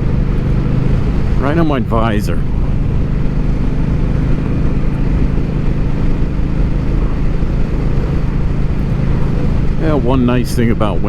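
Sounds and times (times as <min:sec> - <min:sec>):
motorcycle engine drone: 0:00.0 - 0:11.0
wind noise on microphone: 0:00.0 - 0:11.0.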